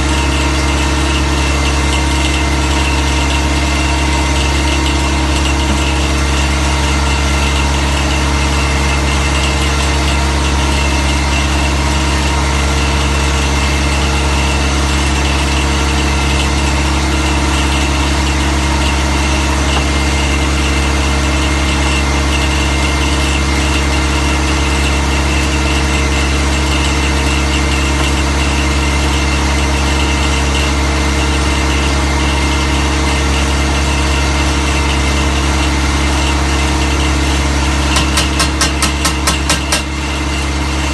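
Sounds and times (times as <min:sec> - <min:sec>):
drill rig engine droning: 0:00.0 - 0:40.9.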